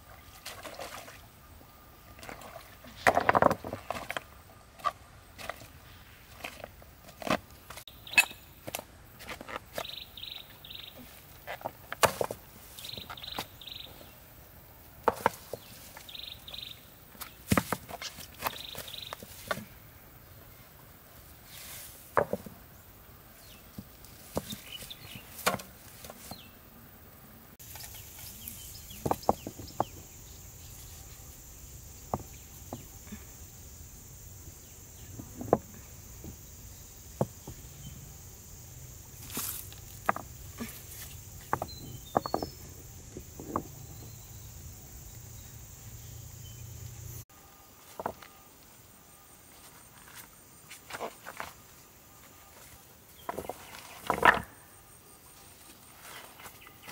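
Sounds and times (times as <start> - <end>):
steady high hiss: 4.2 - 56.9.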